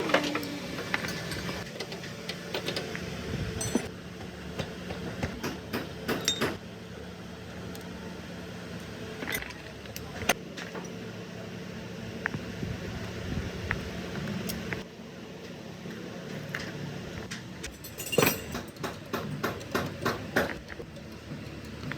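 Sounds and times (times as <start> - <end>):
low mechanical hum: 0.0 - 21.9.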